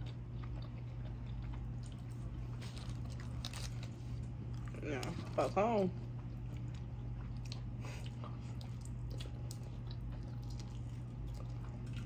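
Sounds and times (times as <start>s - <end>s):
people chewing food: 0.0s - 12.0s
steady low hum: 0.0s - 12.0s.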